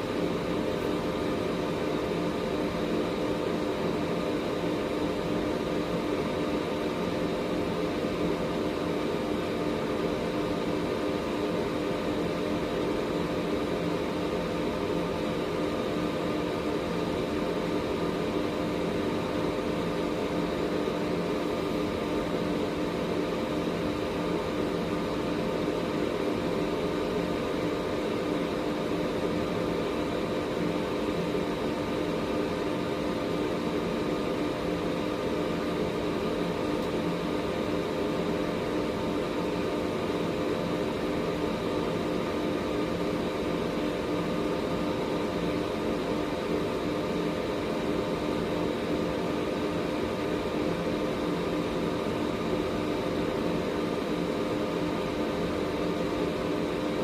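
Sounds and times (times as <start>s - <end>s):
air purifier fan rushing: 0.0s - 57.0s.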